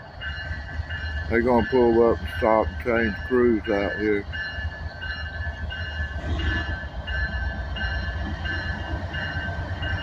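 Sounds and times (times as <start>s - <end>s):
diesel locomotives rumbling: 0.0s - 10.0s.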